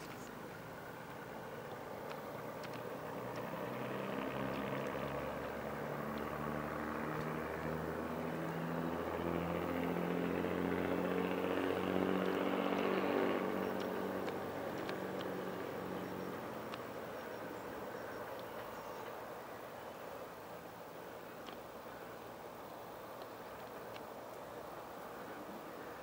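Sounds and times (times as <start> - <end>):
diesel train engines approaching: 0.0 - 26.0.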